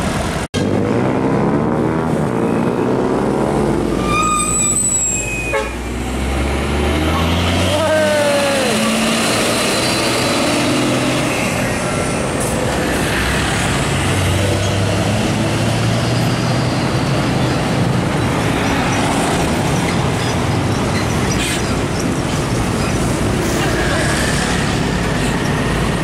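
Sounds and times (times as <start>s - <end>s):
diesel trucks driving past: 0.0s - 26.0s
road traffic noise: 0.0s - 26.0s.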